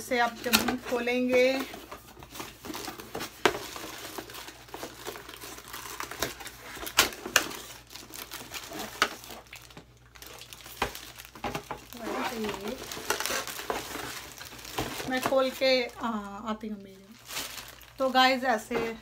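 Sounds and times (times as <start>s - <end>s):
packaging crinkling and tearing: 0.2s - 16.3s, 16.9s - 18.5s.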